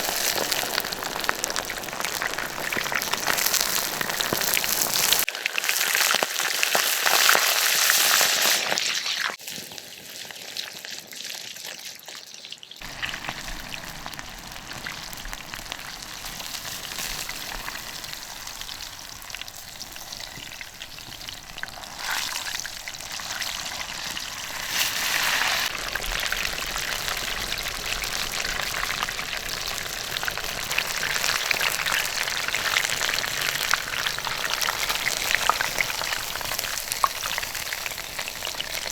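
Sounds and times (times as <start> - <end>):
fire crackling: 0.0 - 5.3, 12.8 - 38.9
chicken sizzling in embers: 0.0 - 38.9.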